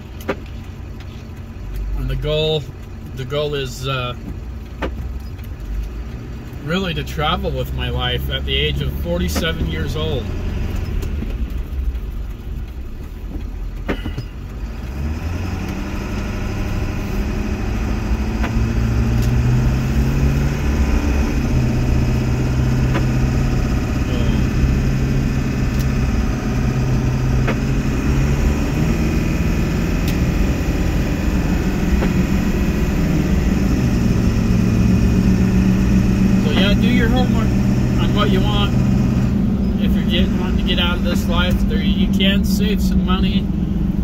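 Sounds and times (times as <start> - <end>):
road noise: 0.0 - 44.0
vehicle engine: 0.0 - 44.0.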